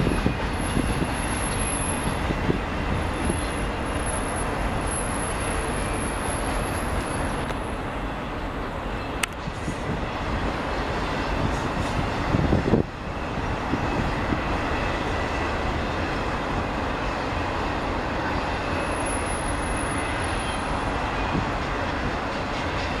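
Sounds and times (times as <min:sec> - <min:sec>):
train wheels on rails: 0:00.0 - 0:23.0.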